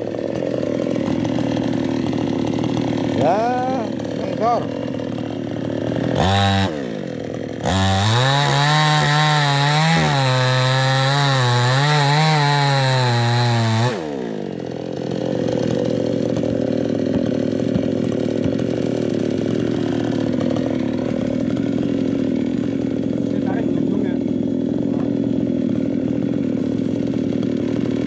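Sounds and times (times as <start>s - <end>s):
chainsaw cutting into tree trunk: 0.0s - 28.0s.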